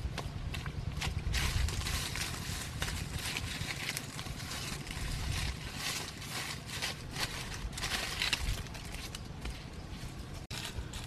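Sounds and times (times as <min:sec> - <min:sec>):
dry leaves rustling: 0:00.0 - 0:11.0.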